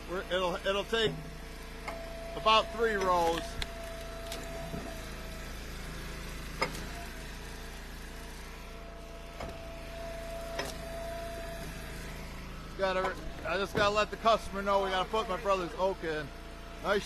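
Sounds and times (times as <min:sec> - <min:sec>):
wood splitter engine running: 0:00.0 - 0:17.0.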